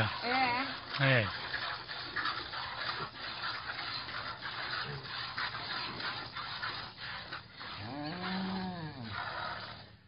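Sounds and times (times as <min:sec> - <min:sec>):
piglet sucking noises: 0:00.0 - 0:10.0.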